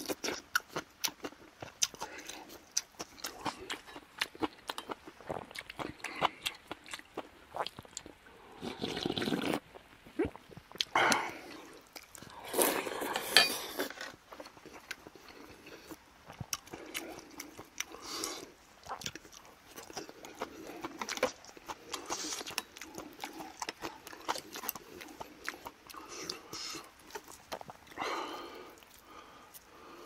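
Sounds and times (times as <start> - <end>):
chewing with wet clicks: 0.0 - 12.4, 13.9 - 28.0.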